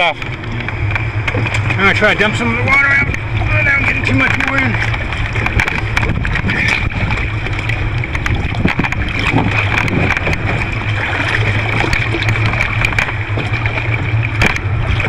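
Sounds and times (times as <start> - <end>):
rushing water: 0.0 - 15.0
water sloshing out of kayak: 0.0 - 15.0
wind: 0.0 - 15.0.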